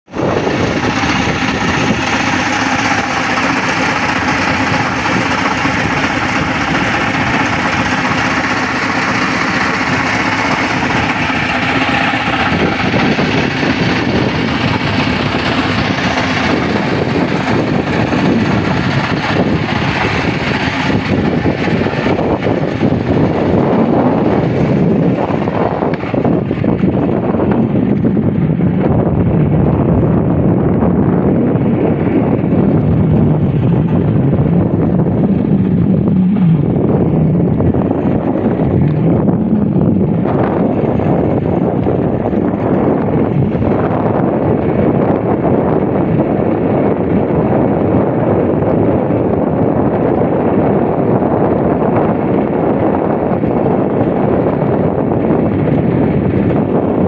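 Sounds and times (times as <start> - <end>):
engine running: 0.0 - 57.0
wind buffeting microphone: 0.0 - 57.0.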